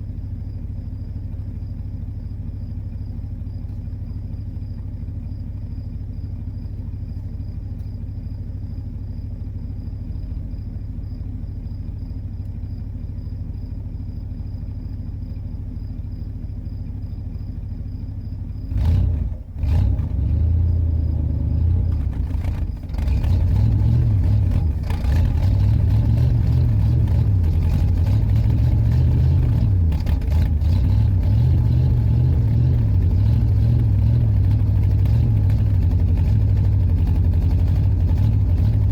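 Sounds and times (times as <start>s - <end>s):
car engine rumbling and revving: 0.0s - 38.9s.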